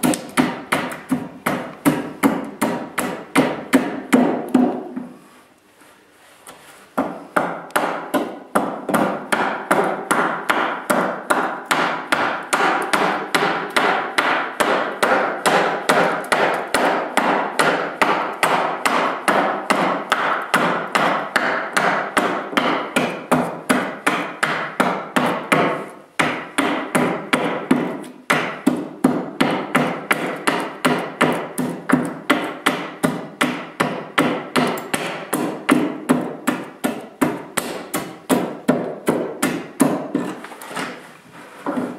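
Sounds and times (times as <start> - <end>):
axe chopping wood: 0.0 - 5.0, 7.0 - 40.9.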